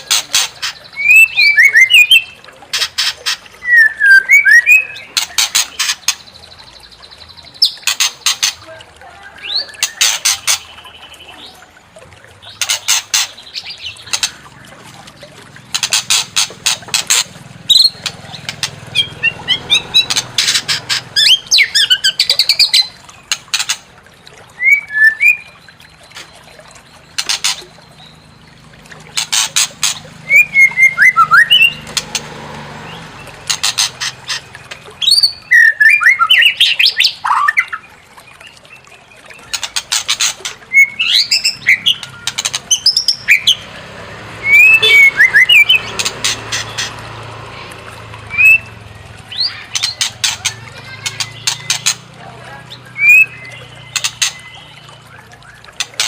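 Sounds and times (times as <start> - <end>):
bird song with harsh rattles: 0.0 - 11.6, 12.4 - 23.9, 24.6 - 43.7, 48.3 - 52.1, 52.7 - 56.0.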